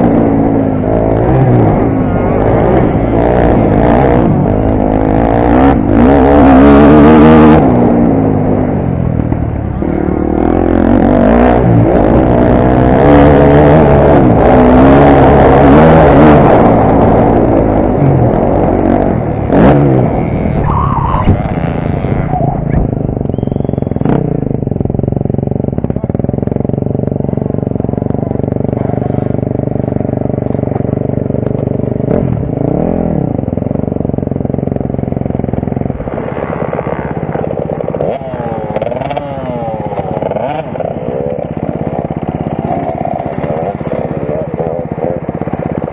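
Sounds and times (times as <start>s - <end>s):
motorbike engines idling and revving: 0.0s - 45.9s.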